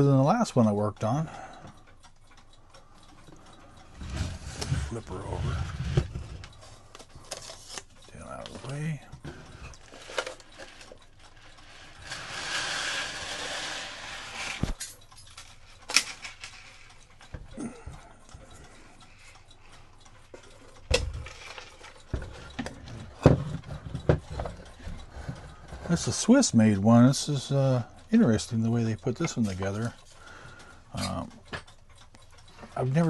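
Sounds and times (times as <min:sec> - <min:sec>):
clock parts clicking and knocking: 0:00.0 - 0:33.0.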